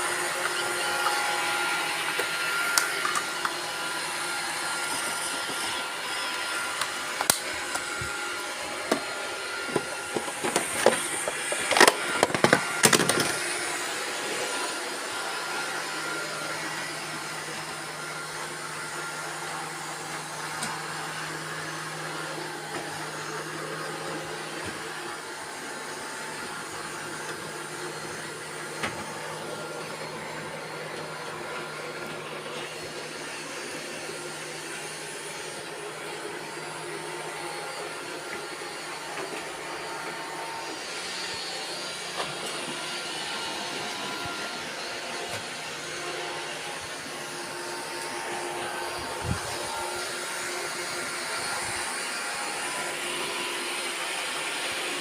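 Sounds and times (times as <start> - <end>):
robot vacuum motor hum: 0.0 - 55.0.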